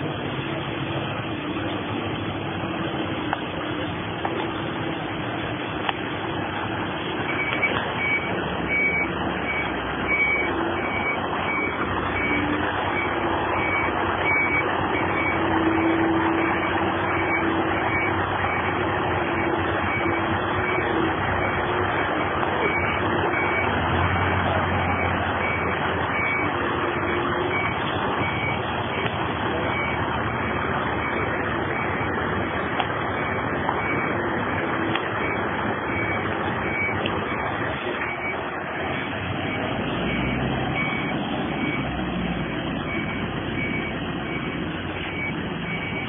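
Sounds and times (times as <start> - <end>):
truck engine running: 0.0 - 46.0
reversing alarm beeping: 7.2 - 46.0.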